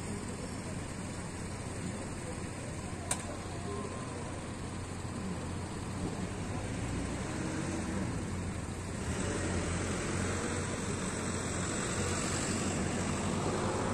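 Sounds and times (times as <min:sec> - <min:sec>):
tractor engines droning: 0:00.0 - 0:13.9.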